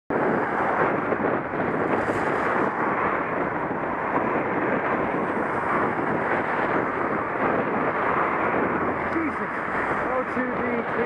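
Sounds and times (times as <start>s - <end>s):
wind rushing over microphone: 0.1s - 11.0s.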